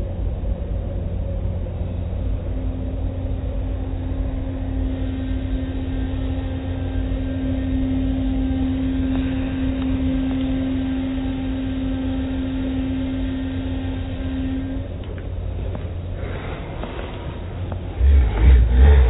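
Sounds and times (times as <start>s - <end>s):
car wash machinery rumbling: 0.0s - 19.0s.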